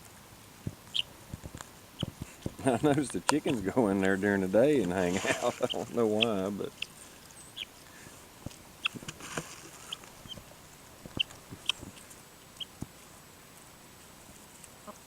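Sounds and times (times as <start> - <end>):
chickens chirping: 0.7 - 13.1.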